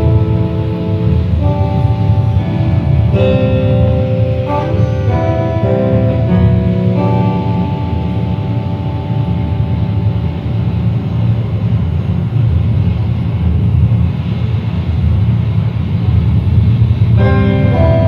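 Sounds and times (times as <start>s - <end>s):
held guitar tones: 0.0s - 14.8s, 16.7s - 18.0s
low rumbling noise drone: 0.0s - 18.0s.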